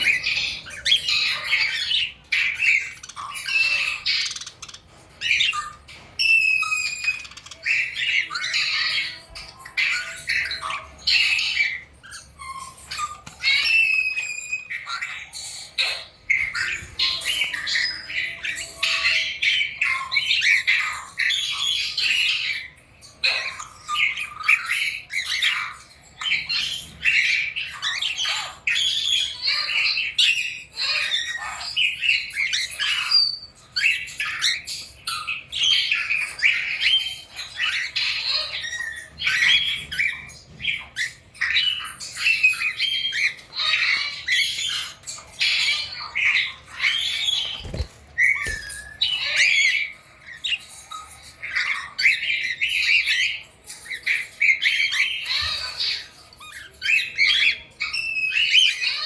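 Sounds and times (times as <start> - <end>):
parrots squawking and chirping: 0.0 - 59.0.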